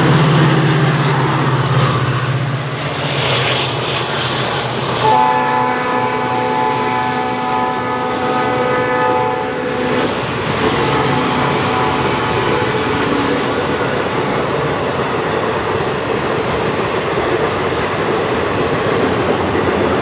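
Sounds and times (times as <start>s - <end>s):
diesel locomotive engine drone: 0.0s - 20.0s
train coaches rushing past: 0.0s - 20.0s.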